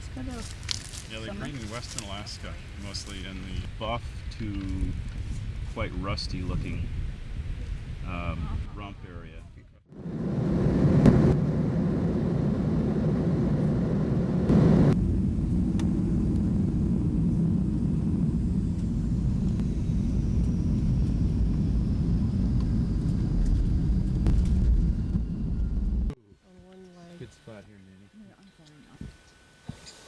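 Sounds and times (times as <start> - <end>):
steady low rumble: 0.0 - 26.2.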